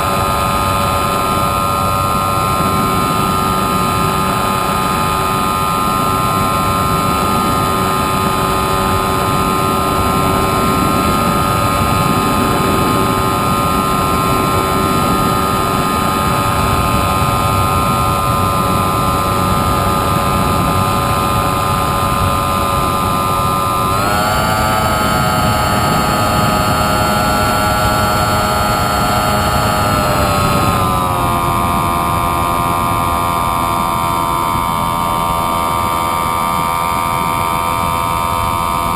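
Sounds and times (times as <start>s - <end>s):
model airplane motor whining: 0.0s - 38.9s.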